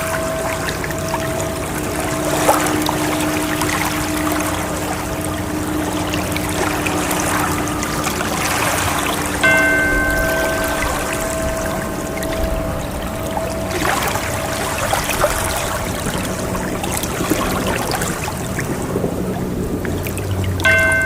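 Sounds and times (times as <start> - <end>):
struck bell ringing: 0.0 - 18.1, 20.7 - 21.0
water sloshing and trickling: 0.0 - 21.0.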